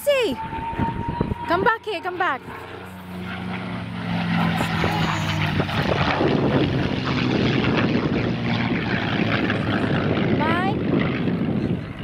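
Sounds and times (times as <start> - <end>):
airplane engine roar overhead: 0.0 - 12.0.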